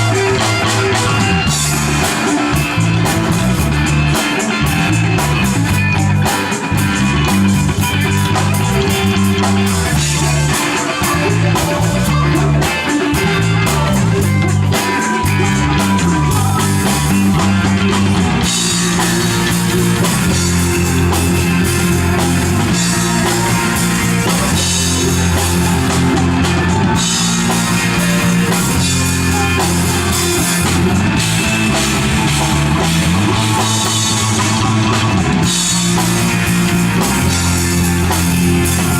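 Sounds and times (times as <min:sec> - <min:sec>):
bass line: 0:00.0 - 0:38.9
drum kit: 0:00.0 - 0:38.9
electric guitar: 0:00.0 - 0:38.9.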